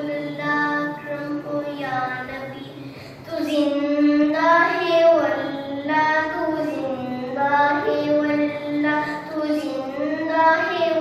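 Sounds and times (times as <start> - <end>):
boy singing into a microphone: 0.0 - 11.0.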